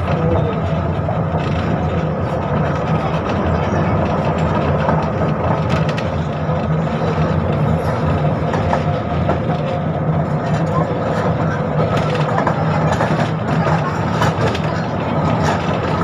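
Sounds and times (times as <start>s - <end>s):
tram wheels rumbling: 0.0s - 16.0s.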